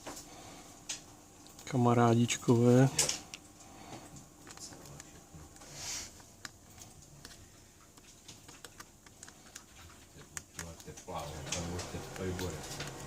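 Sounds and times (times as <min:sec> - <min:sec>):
faint small clicks and ticks: 0:02.5 - 0:13.0.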